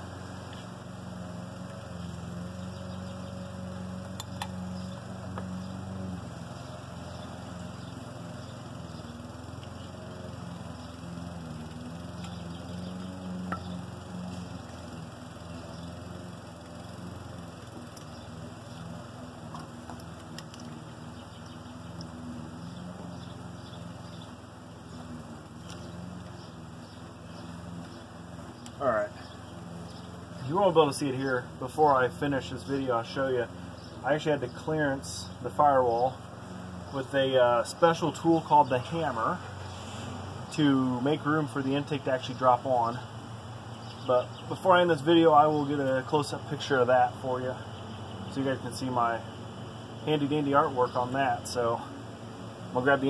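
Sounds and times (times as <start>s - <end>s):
low engine drone: 0.0s - 53.0s.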